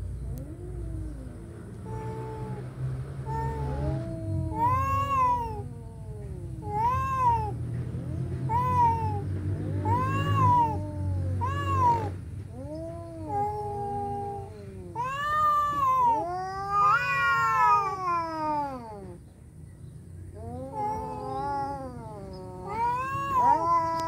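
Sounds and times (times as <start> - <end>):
cats yowling: 0.0 - 19.2, 20.3 - 24.0.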